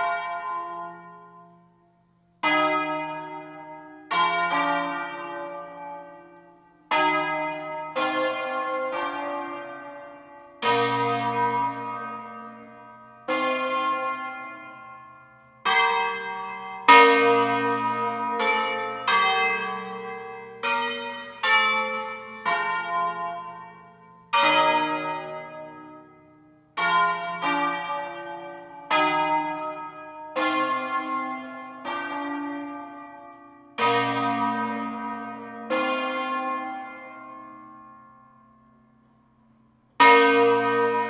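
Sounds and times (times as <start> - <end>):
church bells ringing: 0.0 - 41.0.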